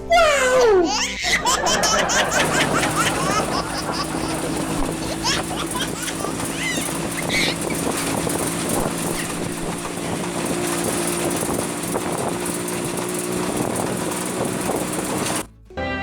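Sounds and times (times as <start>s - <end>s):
motor humming steadily: 1.3s - 15.5s.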